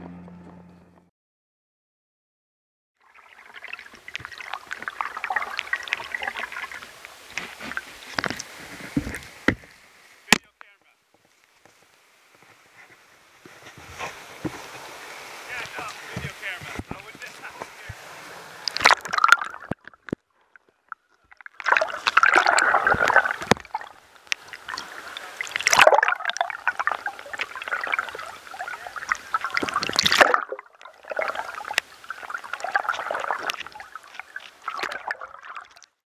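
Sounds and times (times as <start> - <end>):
water gurgling and sloshing: 3.0 - 10.3, 12.0 - 36.0.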